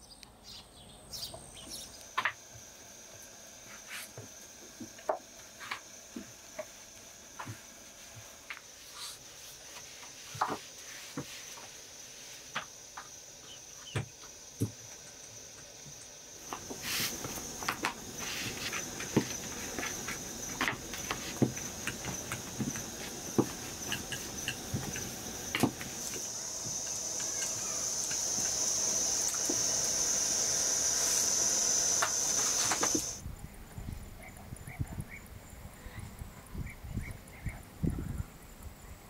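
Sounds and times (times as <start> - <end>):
insects chirring: 0.0 - 39.0
loud hiss: 1.6 - 33.2.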